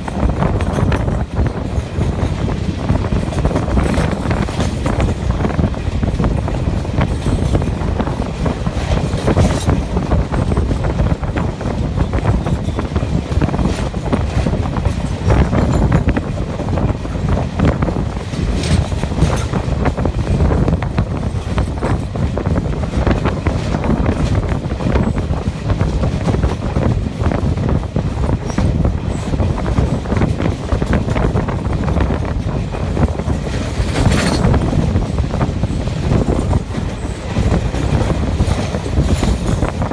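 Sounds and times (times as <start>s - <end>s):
train wheels rumbling on rails: 0.0s - 39.9s
wind on microphone: 0.0s - 39.9s.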